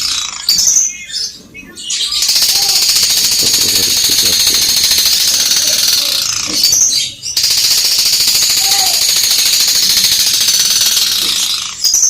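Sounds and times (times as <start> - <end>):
bird singing harsh rattling chatter: 0.0 - 12.0.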